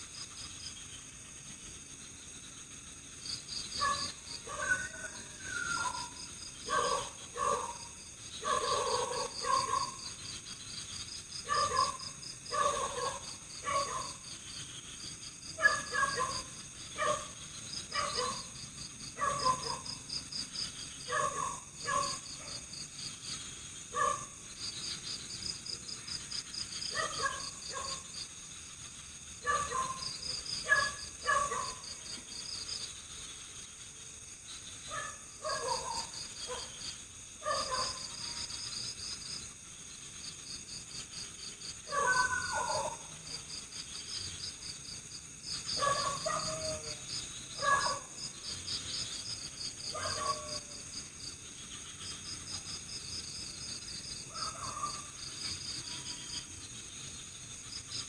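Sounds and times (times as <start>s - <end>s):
crickets trilling: 0.0s - 58.0s
high insect drone: 0.0s - 58.0s.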